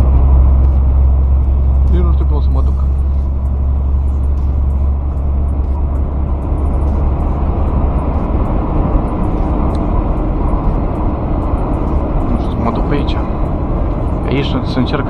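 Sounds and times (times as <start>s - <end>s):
truck engine and tyre drone: 0.0s - 15.0s.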